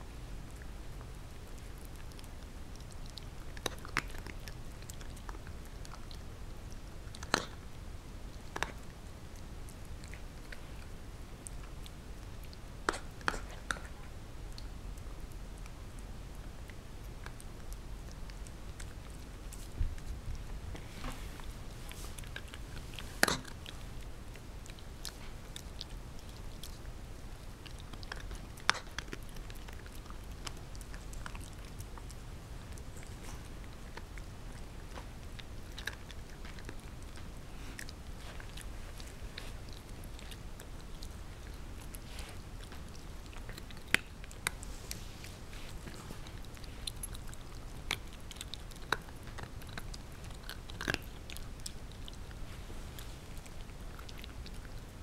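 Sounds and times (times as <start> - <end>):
puppy crunching chew treat: 0.1 - 55.0.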